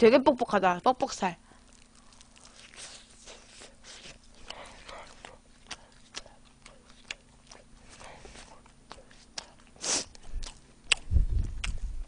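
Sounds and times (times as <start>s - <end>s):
wet chewing and mouth smacks: 1.6s - 12.0s.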